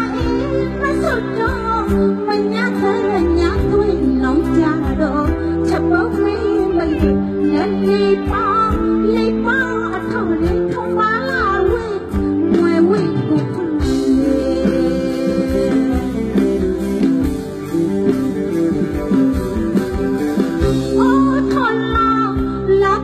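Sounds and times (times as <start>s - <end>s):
woman singing: 0.0s - 17.5s, 20.7s - 23.0s
live band music: 0.0s - 23.0s.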